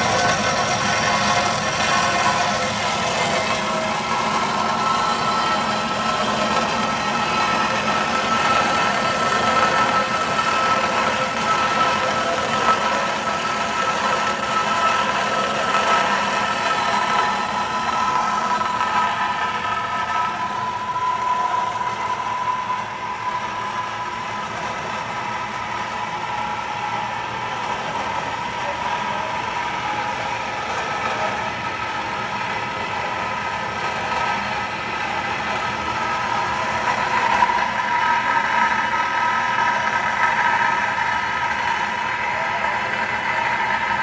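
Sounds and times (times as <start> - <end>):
machine motor droning with whine: 0.0 - 44.0.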